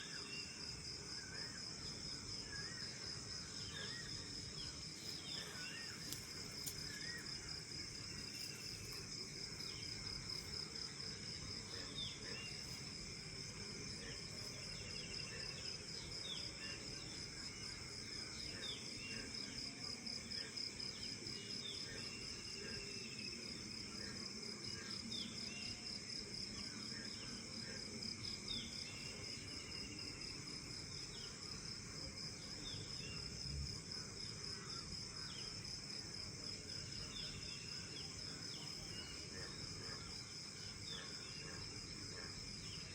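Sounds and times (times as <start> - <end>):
insect trill: 0.0 - 42.9.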